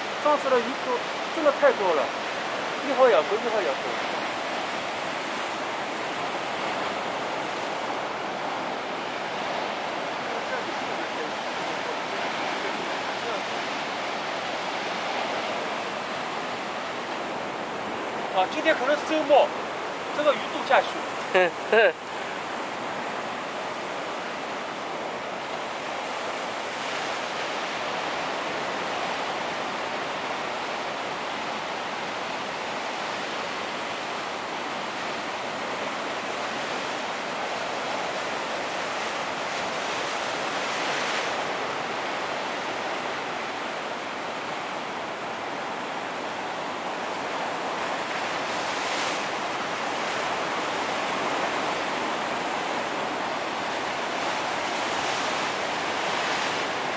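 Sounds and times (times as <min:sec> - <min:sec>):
ocean surf washing onto beach: 0:00.0 - 0:56.9.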